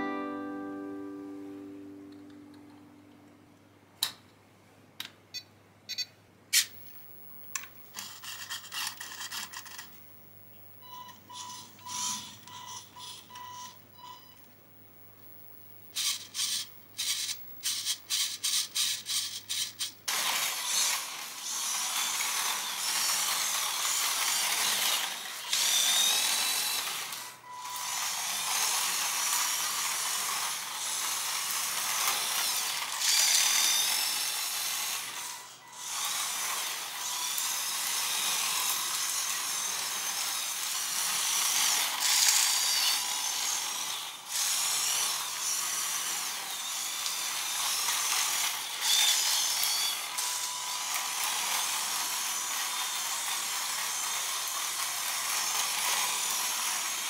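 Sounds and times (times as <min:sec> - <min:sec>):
toy tractor motor whining: 0:07.9 - 0:10.0, 0:10.8 - 0:14.4, 0:15.9 - 0:57.0.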